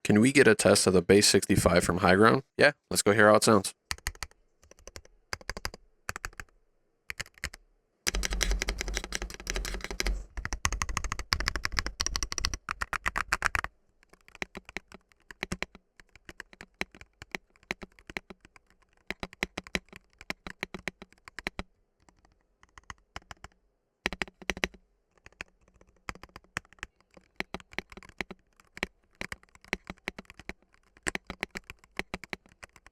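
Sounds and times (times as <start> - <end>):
mechanical keyboard typing: 3.9 - 6.5, 7.1 - 32.9.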